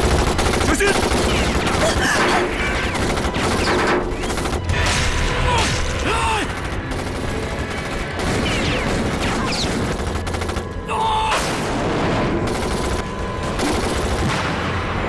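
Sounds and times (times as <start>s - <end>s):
rapid automatic gunfire: 0.0s - 4.9s, 6.0s - 11.1s, 12.4s - 14.7s.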